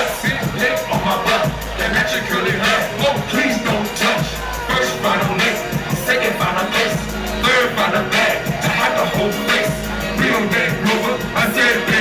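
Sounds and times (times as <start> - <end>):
hip hop beat with deep bass: 0.0 - 12.0
vocal over beat: 0.0 - 12.0.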